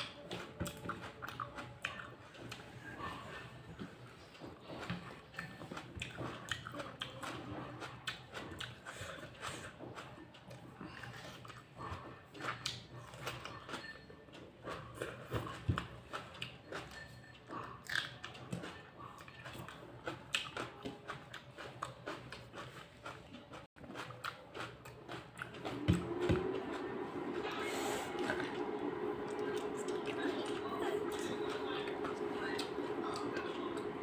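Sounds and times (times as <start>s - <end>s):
person chewing raw vegetables: 0.0s - 34.0s.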